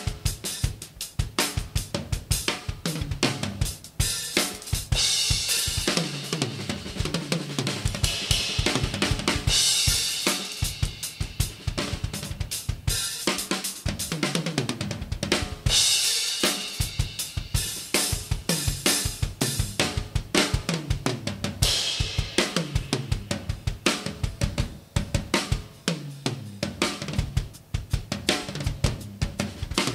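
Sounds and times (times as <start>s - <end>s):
drum kit groove: 0.0s - 29.9s.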